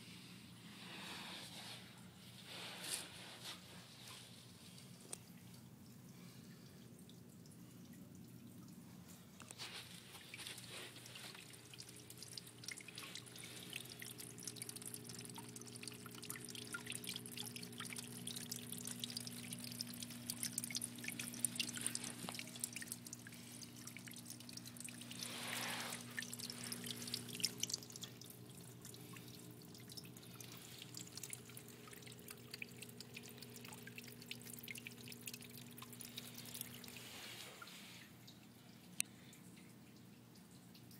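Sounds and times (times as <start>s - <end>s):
water dripping and trickling: 1.6s - 40.9s
steady low hum: 4.6s - 39.9s.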